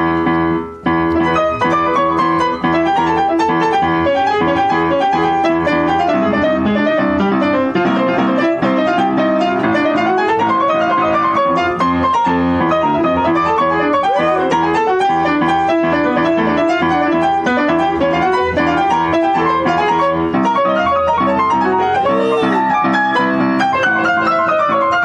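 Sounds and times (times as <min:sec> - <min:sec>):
piano playing fast runs: 0:00.0 - 0:25.0.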